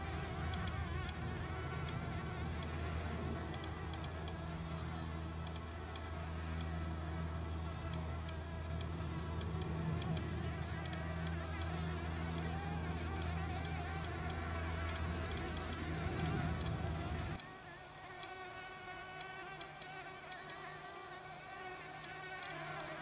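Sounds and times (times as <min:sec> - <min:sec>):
bees buzzing in flight: 0:00.0 - 0:23.0.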